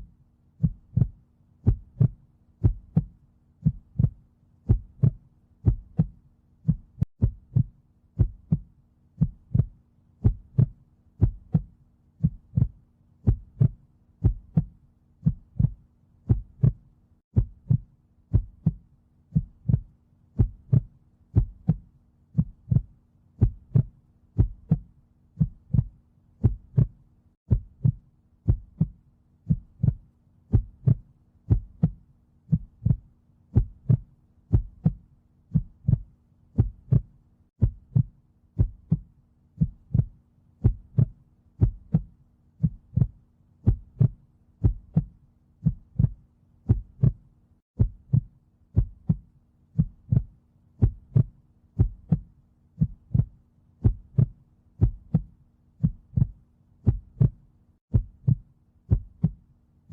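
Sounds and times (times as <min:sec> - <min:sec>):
heartbeat: 0:00.0 - 0:59.9.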